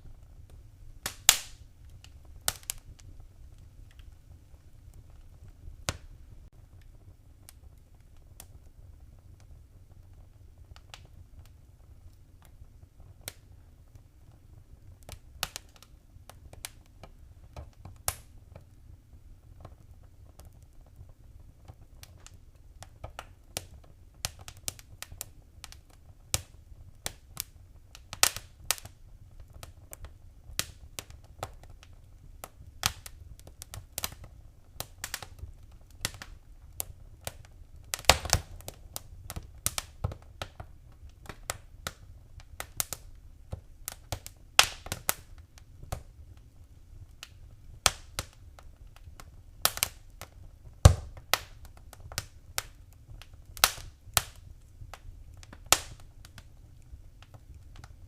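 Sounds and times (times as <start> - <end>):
fire crackling and popping: 0.0 - 58.0
low fire rumble: 0.0 - 58.0.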